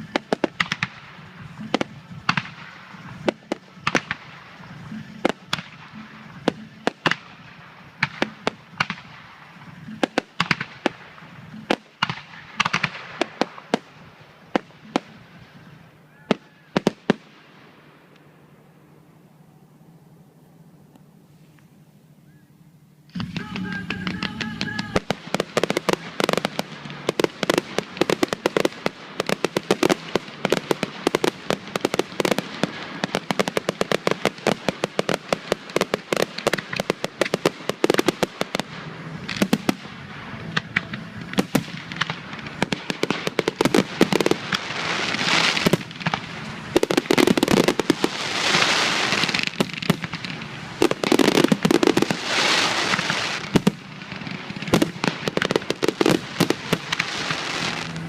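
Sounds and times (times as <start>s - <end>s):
fireworks crackling: 0.0s - 21.9s, 23.0s - 58.0s.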